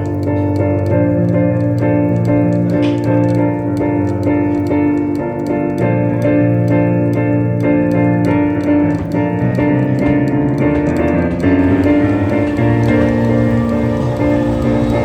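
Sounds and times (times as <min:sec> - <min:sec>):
piano chords over steady pulse: 0:00.0 - 0:15.0.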